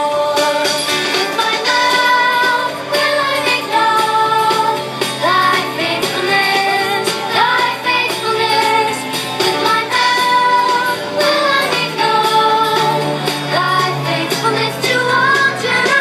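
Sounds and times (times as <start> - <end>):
song with singing voice: 0.0 - 16.0.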